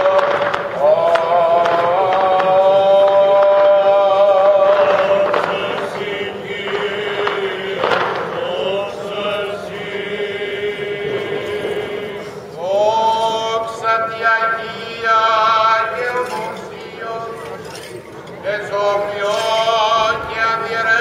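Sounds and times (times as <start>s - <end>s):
voices chanting long notes: 0.0s - 17.6s.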